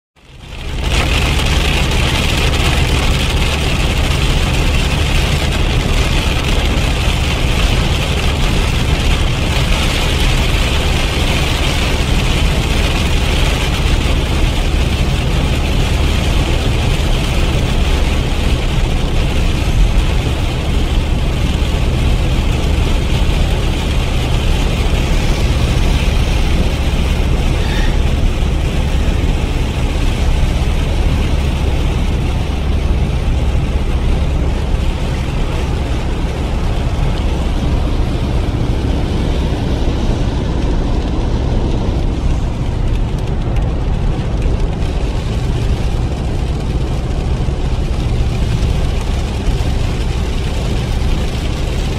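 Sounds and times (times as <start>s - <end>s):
engine and tyre rumble: 0.2s - 51.9s
rain and tyre spray hiss: 0.2s - 51.9s.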